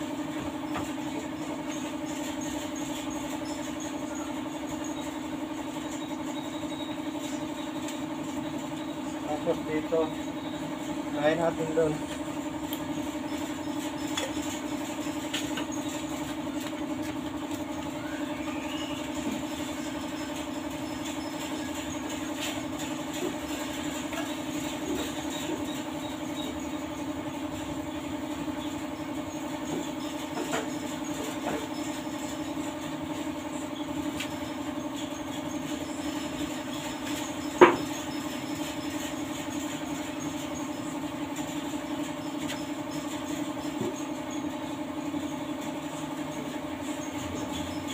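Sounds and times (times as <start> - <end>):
machine hum: 0.0 - 47.9.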